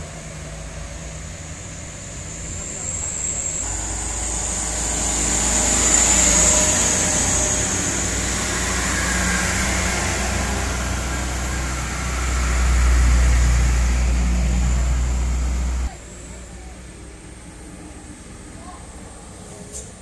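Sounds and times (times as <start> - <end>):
diesel truck engine rumble: 0.0 - 16.3.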